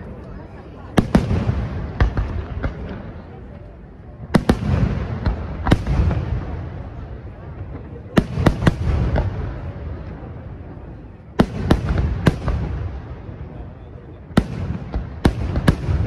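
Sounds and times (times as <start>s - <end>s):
low rumble of echoing reports: 0.0s - 16.0s.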